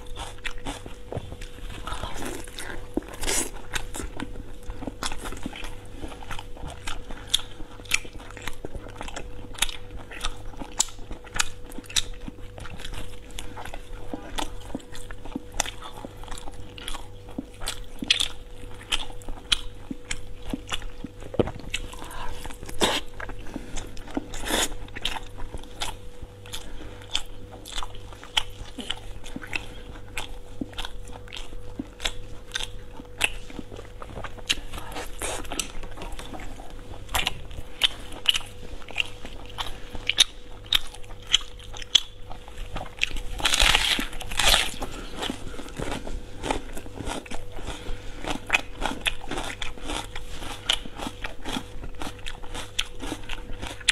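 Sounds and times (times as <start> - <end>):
chewing and mouth sounds: 0.0 - 53.9
steady hum: 0.0 - 53.9.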